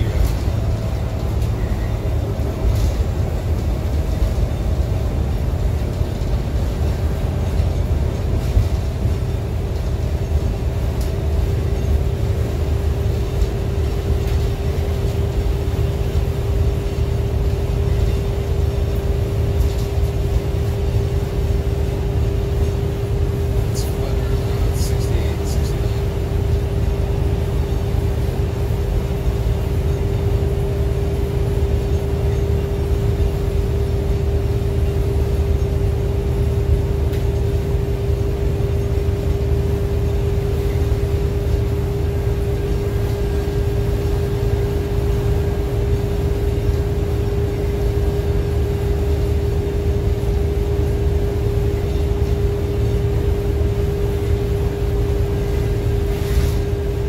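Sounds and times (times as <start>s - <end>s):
bus engine and road rumble: 0.0s - 57.0s
constant whine: 0.0s - 57.0s.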